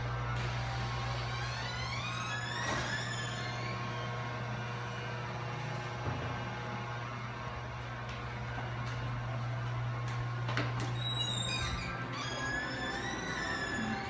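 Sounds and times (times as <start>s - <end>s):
ventilation hum: 0.0s - 14.0s.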